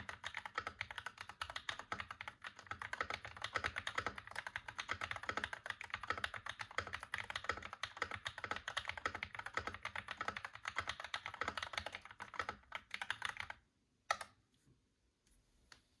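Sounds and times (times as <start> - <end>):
typing on a mechanical keyboard: 0.0 - 14.3.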